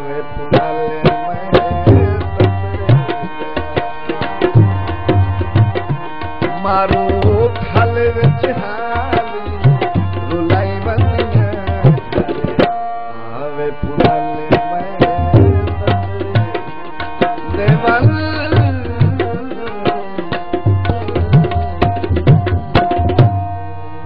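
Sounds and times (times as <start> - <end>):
held melody notes: 0.0 - 24.0
tabla playing: 0.0 - 24.0.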